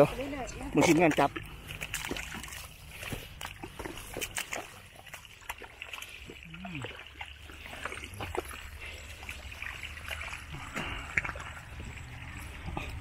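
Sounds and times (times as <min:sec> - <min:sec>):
hands squelching in mud and water: 0:00.1 - 0:13.0.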